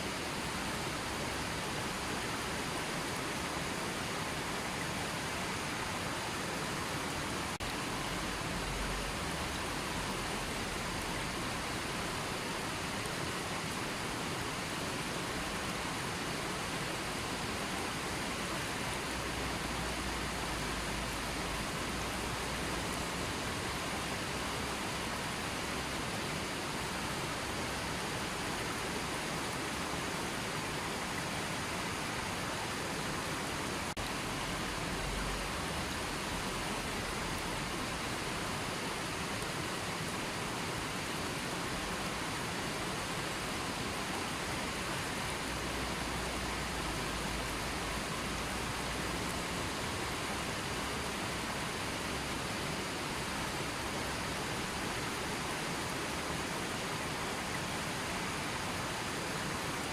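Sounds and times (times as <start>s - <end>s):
stream flowing: 0.0s - 59.9s.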